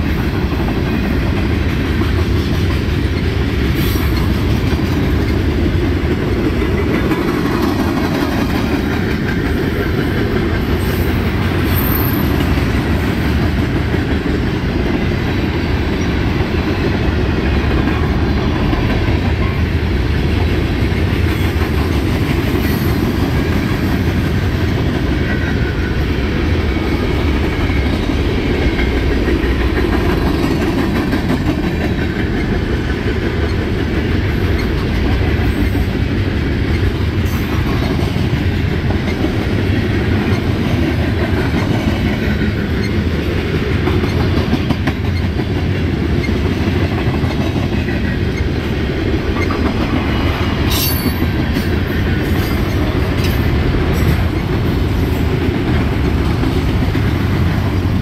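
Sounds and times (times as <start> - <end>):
train wheels rolling on track: 0.0 - 58.0.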